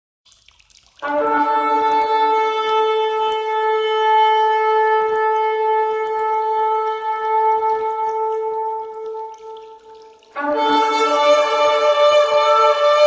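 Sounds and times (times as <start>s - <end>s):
shofar long held note: 1.0s - 13.0s.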